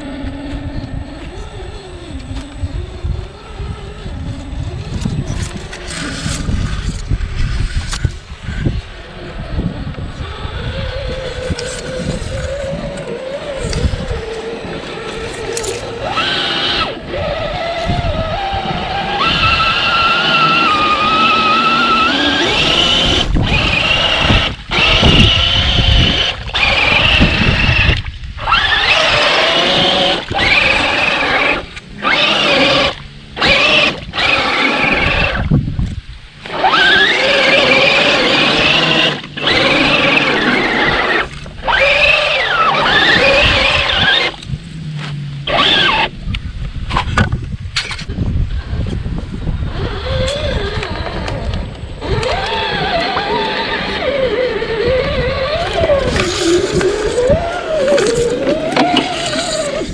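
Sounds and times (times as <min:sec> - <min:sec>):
rc car electric motor whining: 0:00.0 - 0:35.6, 0:36.4 - 0:46.2, 0:47.8 - 0:59.9
low rumbling noise: 0:00.0 - 0:59.9.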